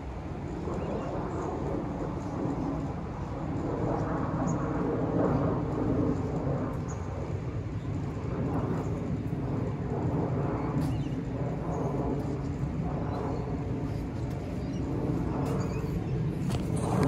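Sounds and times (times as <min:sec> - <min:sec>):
low outdoor background rumble: 0:00.0 - 0:17.0.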